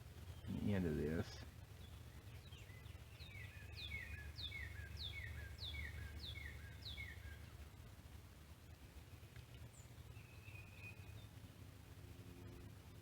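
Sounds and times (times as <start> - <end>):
low steady rumble: 0.0 - 13.0
songbird singing: 0.0 - 13.0.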